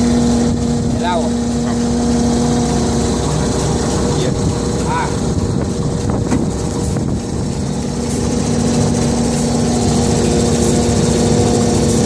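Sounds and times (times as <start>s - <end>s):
diesel machinery running: 0.0s - 12.0s
steady whine: 0.0s - 12.0s.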